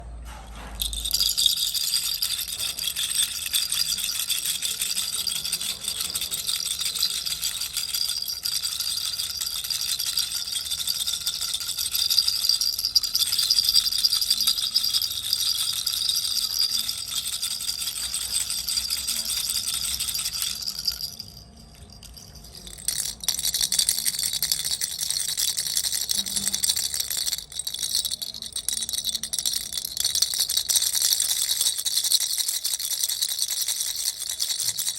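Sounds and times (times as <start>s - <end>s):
toy rattle shaken: 0.3s - 34.9s.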